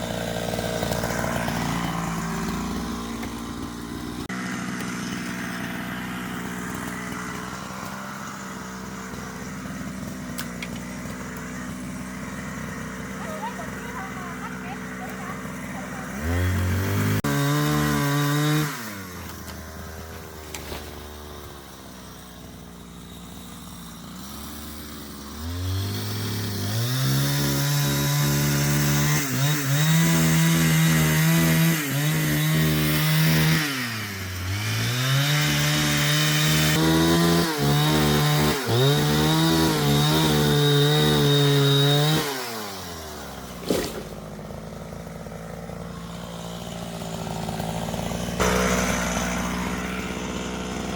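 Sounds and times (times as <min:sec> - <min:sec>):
chainsaw revving and idling: 0:00.0 - 0:50.9.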